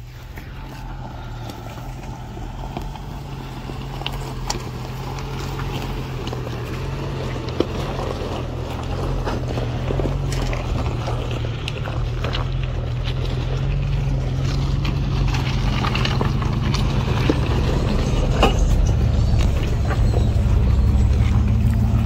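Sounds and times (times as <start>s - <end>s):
car engine running at low speed: 0.0s - 22.0s
stones crunching under tyres: 0.0s - 22.0s.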